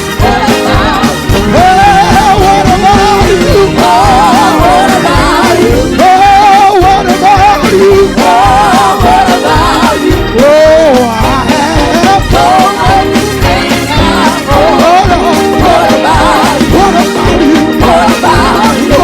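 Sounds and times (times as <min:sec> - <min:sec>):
gospel band playing: 0:00.0 - 0:19.0
solo voice singing: 0:01.4 - 0:19.0.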